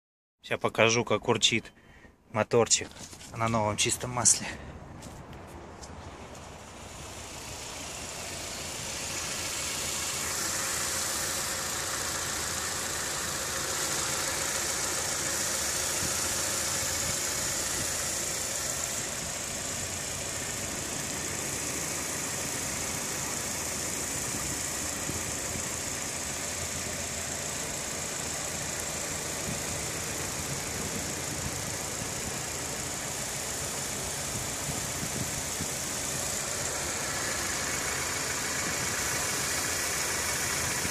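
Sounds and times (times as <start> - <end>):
car engine idling: 1.8 - 40.9.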